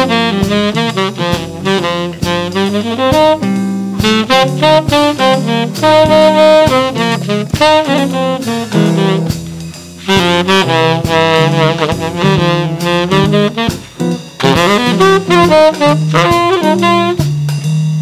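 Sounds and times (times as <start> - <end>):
drum kit: 0.0 - 18.0
saxophone jazz melody: 0.0 - 18.0.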